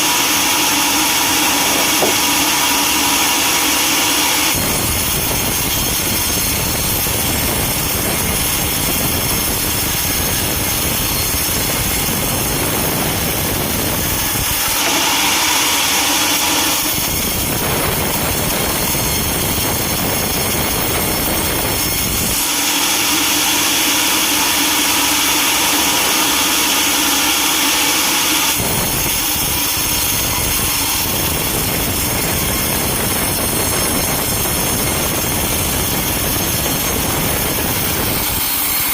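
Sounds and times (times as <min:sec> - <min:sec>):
sawmill machinery sawing: 0:00.0 - 0:38.9.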